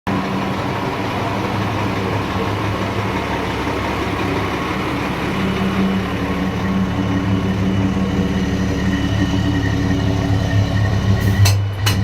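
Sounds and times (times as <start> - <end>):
truck diesel engine idling: 0.1 - 12.0.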